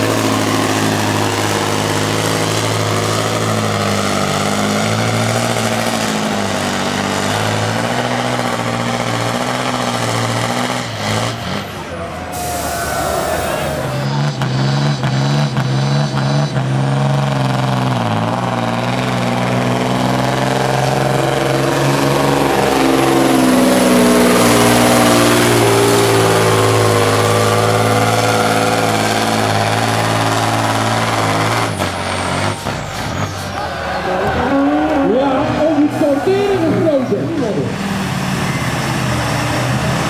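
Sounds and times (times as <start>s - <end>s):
diesel truck engine under load: 0.0s - 40.0s.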